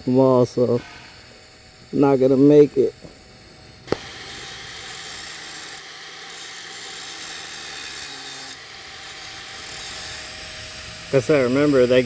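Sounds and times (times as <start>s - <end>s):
angle grinder grinding metal: 0.1s - 12.0s.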